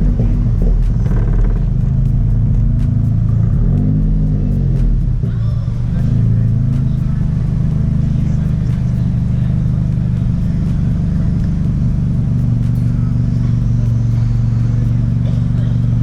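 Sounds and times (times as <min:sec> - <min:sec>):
car engine running steadily: 0:00.0 - 0:16.0.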